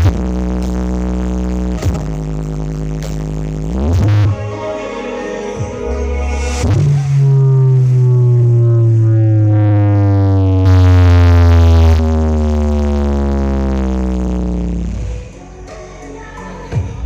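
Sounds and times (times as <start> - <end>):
deep synth bass note sliding down: 0.0 - 15.4.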